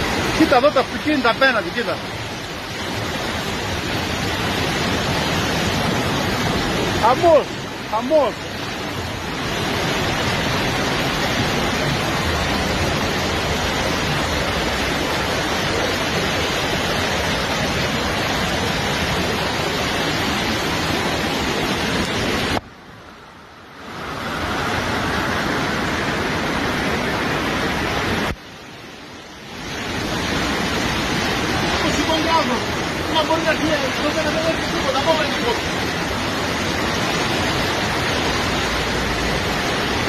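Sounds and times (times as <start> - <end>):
floodwater rushing roar: 0.0 - 40.0.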